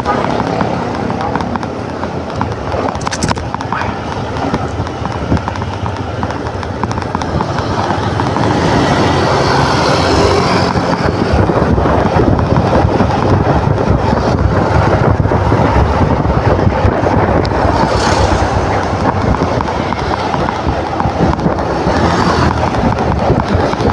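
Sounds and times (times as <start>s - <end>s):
motor scooter engine: 0.0s - 23.9s
wind noise: 0.0s - 23.9s.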